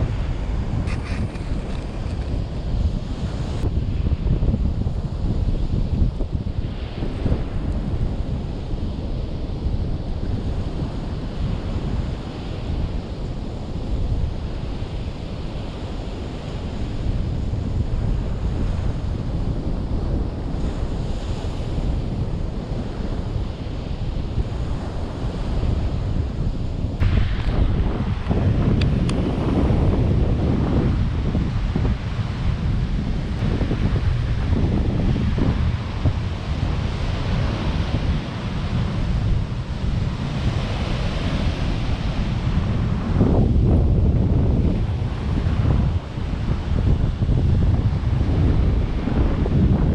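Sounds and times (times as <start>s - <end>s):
sea waves washing ashore: 0.0s - 49.9s
wind buffeting microphone: 0.0s - 49.9s.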